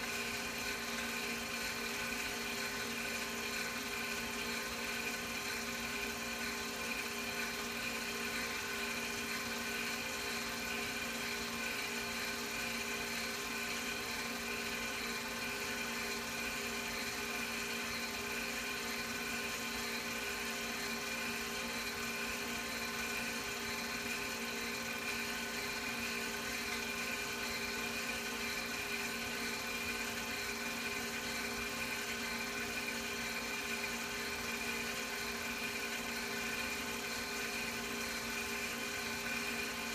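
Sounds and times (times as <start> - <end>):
film projector motor whirring: 0.0 - 39.9.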